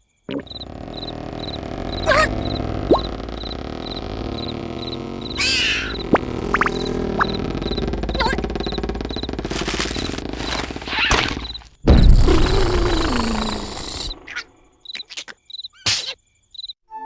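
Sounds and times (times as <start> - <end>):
crickets chirping: 0.0 - 11.7, 12.3 - 16.8
loud burst with falling tone: 0.4 - 14.3
loud noisy rasping: 0.4 - 14.3.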